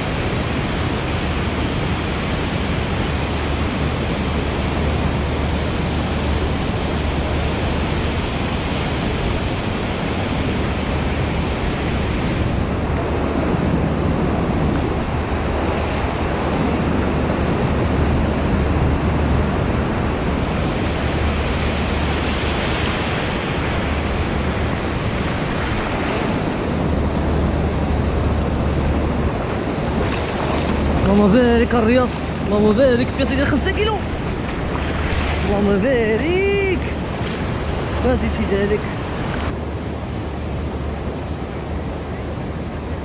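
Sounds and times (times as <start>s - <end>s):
surf breaking on beach: 0.0s - 43.0s
wind buffeting microphone: 0.0s - 43.0s.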